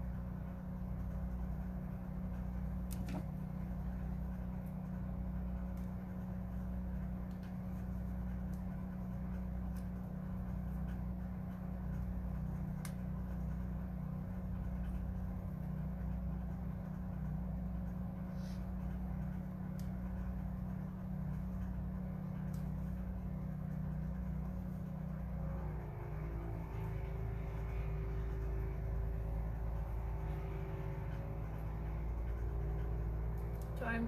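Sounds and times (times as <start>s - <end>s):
low mechanical drone: 0.0s - 34.0s.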